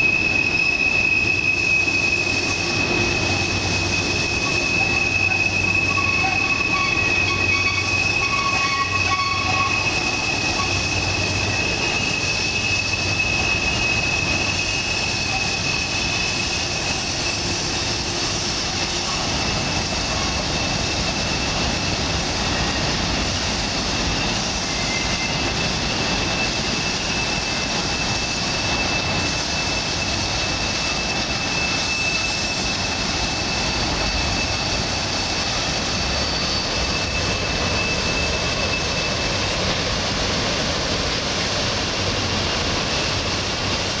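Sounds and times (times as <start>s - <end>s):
high-pitched wheel squeal: 0.0s - 41.6s
train wheels rumbling on rail: 0.0s - 44.0s.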